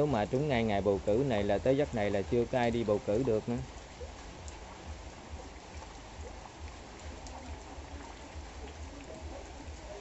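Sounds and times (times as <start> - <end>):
low uneven rumble: 0.0 - 10.0
rain on wet concrete: 0.0 - 10.0.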